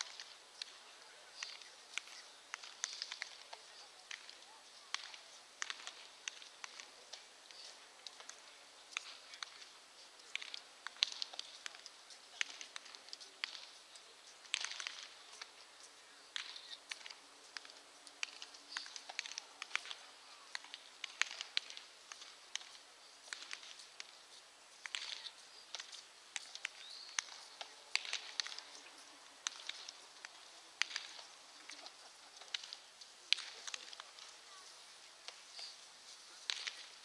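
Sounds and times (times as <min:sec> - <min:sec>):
baseballs smacking into gloves: 0:01.4 - 0:13.7, 0:14.4 - 0:15.5, 0:16.3 - 0:24.1, 0:24.8 - 0:34.3, 0:35.2 - 0:36.9.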